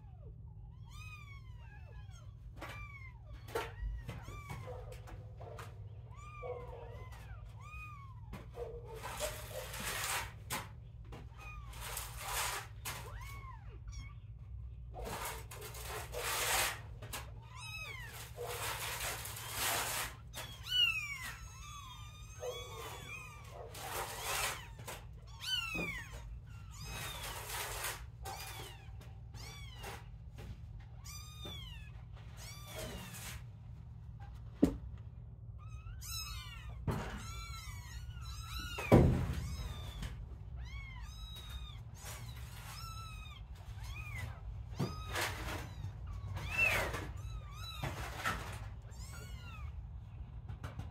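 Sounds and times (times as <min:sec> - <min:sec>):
kittens mewing: 0:00.0 - 0:30.3, 0:35.4 - 0:50.2.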